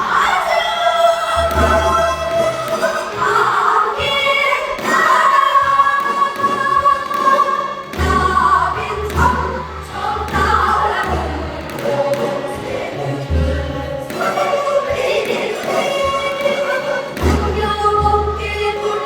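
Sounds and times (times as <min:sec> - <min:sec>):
voices singing folk song together: 0:00.0 - 0:19.0.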